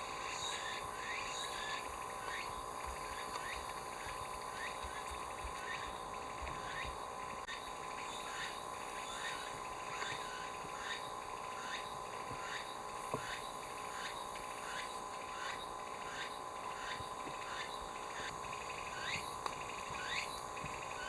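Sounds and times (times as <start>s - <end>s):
frogs or insects calling: 0.0s - 21.0s.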